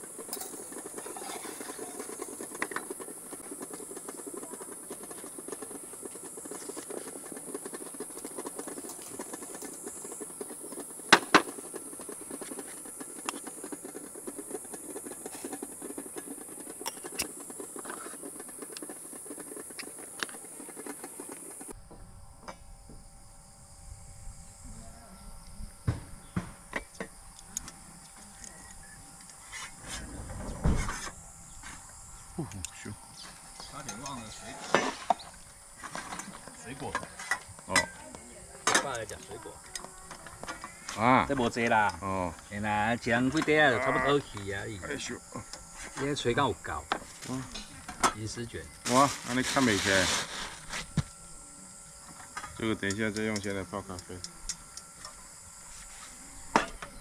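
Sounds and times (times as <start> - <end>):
gas stove hissing: 0.0 - 21.8, 25.9 - 57.0.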